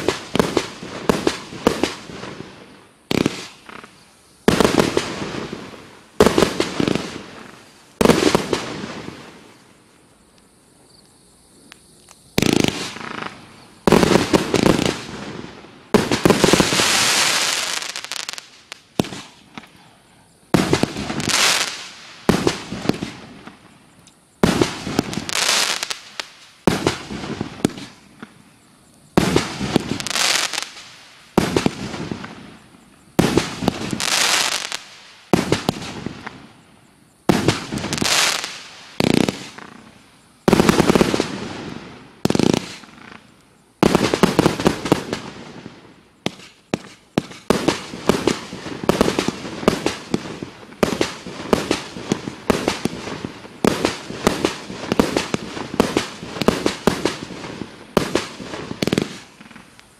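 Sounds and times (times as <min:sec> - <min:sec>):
hiss of burning stars: 0:00.0 - 0:11.0, 0:12.2 - 0:59.9.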